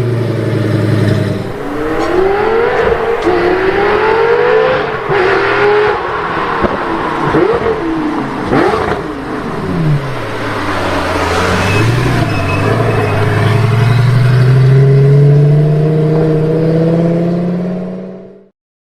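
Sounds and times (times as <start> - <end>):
sports car engine revving: 0.0 - 18.2
car accelerating: 0.0 - 18.5.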